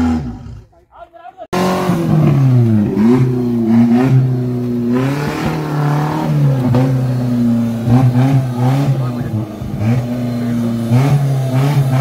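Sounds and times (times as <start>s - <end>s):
engine revving up and down: 0.0s - 0.7s, 1.5s - 12.0s.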